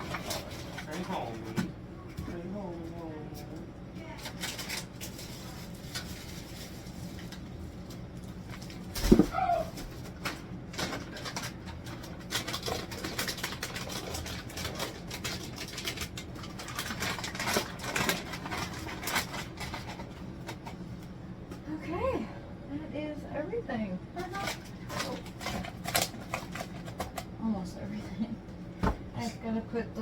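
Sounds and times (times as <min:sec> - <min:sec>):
groceries and packaging handled: 0:00.0 - 0:21.8, 0:24.2 - 0:29.3.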